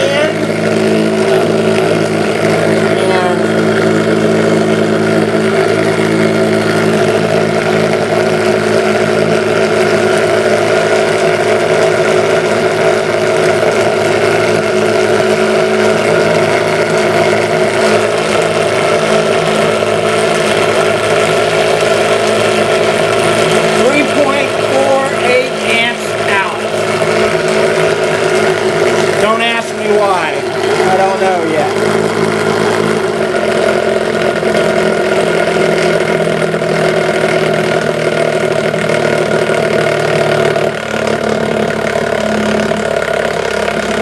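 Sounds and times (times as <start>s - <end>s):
motor humming: 0.0s - 44.0s.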